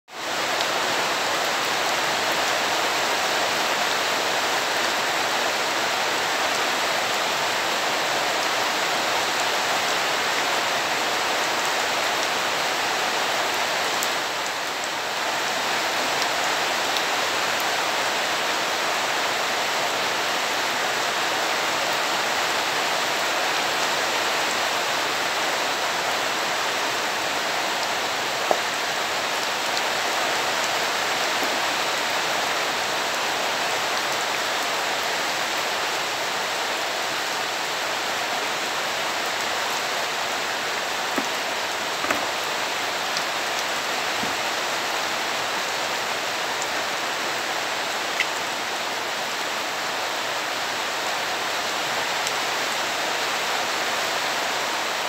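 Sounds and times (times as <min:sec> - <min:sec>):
rain falling into puddles: 0:00.1 - 0:55.0.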